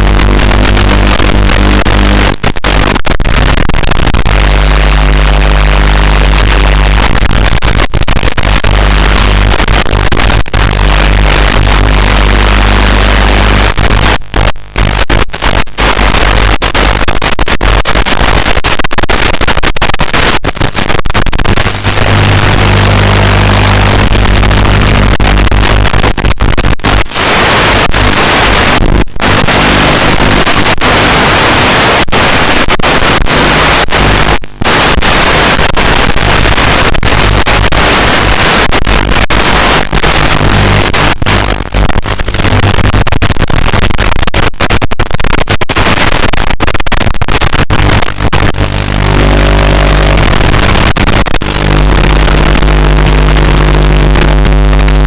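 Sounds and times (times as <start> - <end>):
loud static hiss: 0.0 - 55.0.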